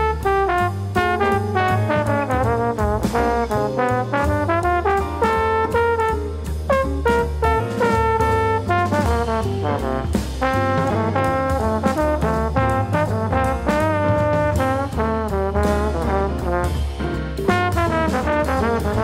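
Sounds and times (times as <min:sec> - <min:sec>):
brass lead line: 0:00.0 - 0:19.0
low bass line: 0:00.0 - 0:19.0.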